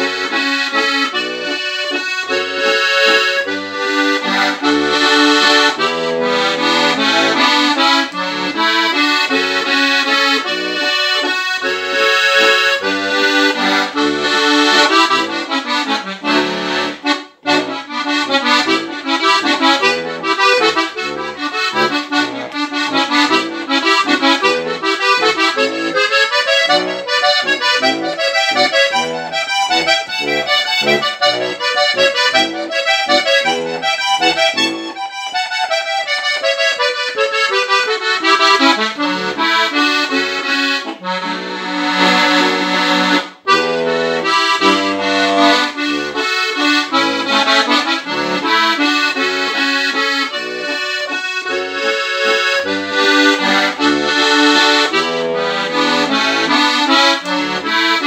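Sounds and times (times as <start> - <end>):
button accordion folk tune: 0.0 - 58.0.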